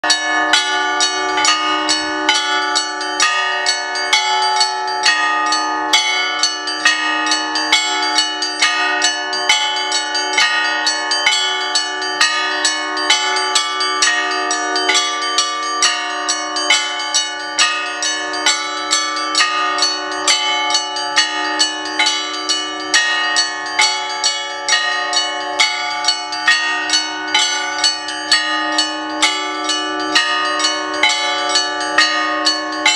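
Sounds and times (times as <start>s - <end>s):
low bells humming: 0.0s - 32.9s
small church bells striking: 0.0s - 32.9s.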